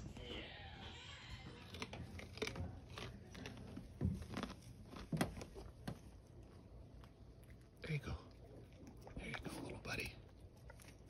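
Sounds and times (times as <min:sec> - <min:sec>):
deer crunching on carrot: 0:01.4 - 0:11.0.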